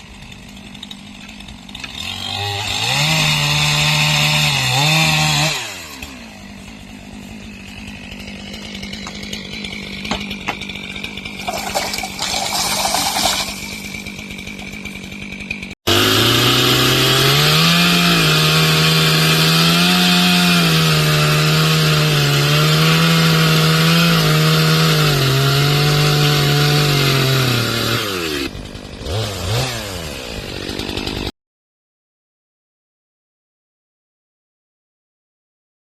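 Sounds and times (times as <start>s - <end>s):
chainsaw idling: 0.0s - 31.3s
chainsaw cutting wood: 0.0s - 31.4s.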